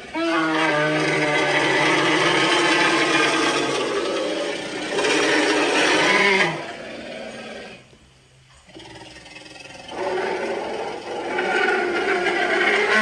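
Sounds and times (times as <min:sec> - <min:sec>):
large animal call: 0:00.0 - 0:07.9, 0:08.6 - 0:13.0.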